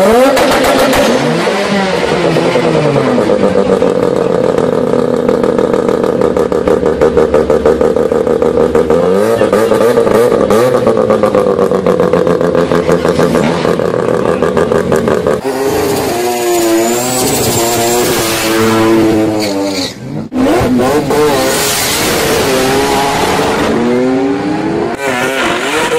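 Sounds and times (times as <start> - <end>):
car engine revving: 0.0 - 25.9
rotary engine at high revs: 0.0 - 25.9.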